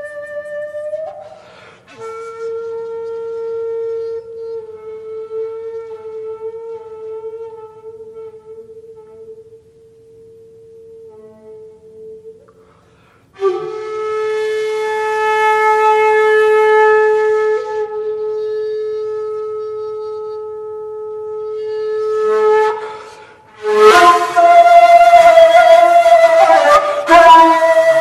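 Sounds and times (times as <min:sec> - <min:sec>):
bamboo flute long notes: 0:00.0 - 0:28.0.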